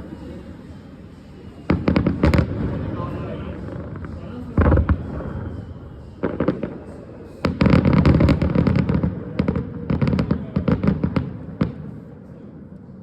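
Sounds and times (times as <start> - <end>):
fireworks bangs and crackles: 1.5 - 13.0.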